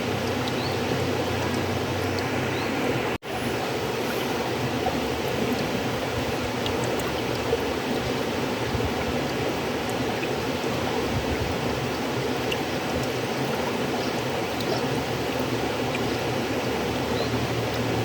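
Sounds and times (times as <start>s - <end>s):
droplet ticks and splashes: 0.0s - 2.6s, 4.7s - 18.0s
river water rushing: 0.0s - 18.0s.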